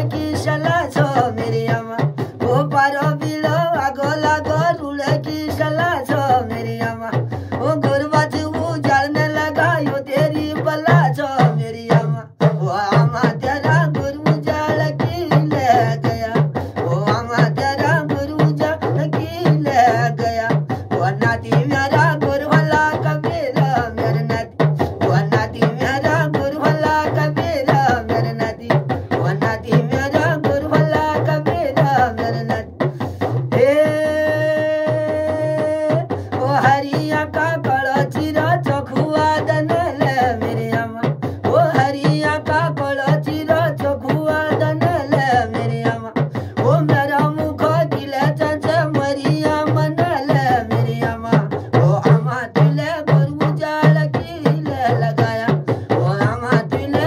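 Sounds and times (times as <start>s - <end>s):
hand drum beating: 0.0s - 57.0s
man singing folk song: 0.0s - 57.0s.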